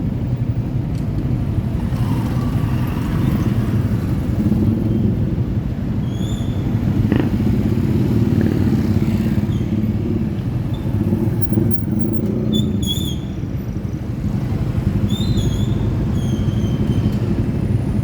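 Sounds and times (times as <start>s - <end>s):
motorcycle engine rumbling: 0.1s - 18.0s.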